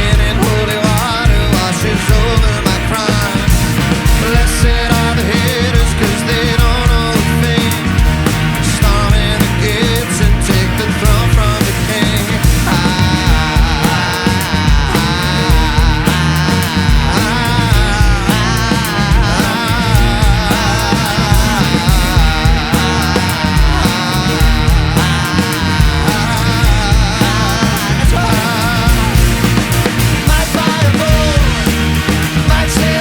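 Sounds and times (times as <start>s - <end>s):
drums and cymbals beat: 0.0s - 33.0s
rock band playing live: 0.0s - 33.0s.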